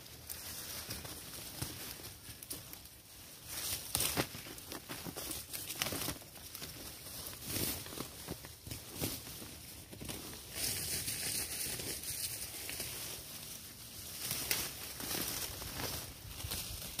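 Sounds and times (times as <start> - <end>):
leaves rustling: 0.0 - 17.0
twigs crackling: 0.0 - 17.0.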